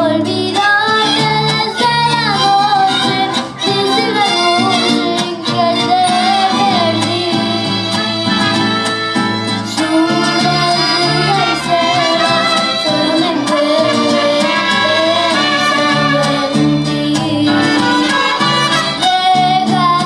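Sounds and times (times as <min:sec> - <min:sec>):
girl singing: 0:00.0 - 0:20.0
mariachi band playing: 0:00.0 - 0:20.0.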